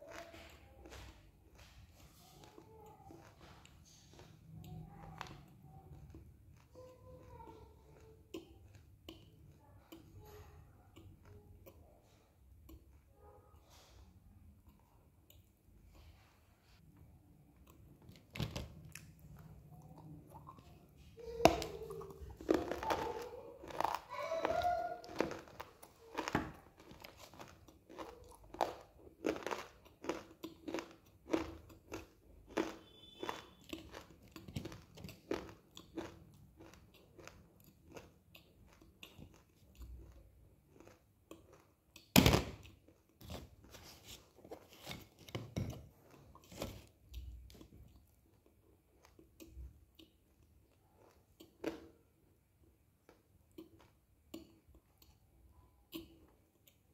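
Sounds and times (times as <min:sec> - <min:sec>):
chewing crunchy clay: 0:00.0 - 0:13.1, 0:17.6 - 0:52.1.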